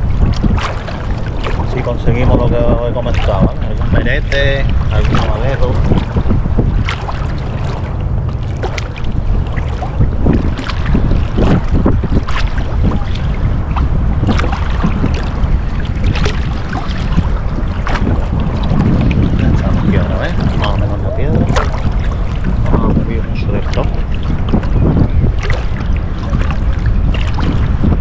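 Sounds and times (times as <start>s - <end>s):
knocks and splashes: 0.0s - 28.0s
water lapping: 0.0s - 28.0s
wind rumbling on microphone: 0.0s - 28.0s.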